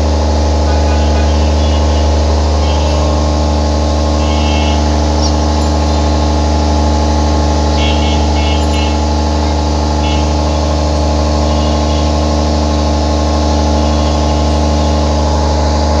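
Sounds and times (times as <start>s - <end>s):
generator running: 0.0s - 16.0s.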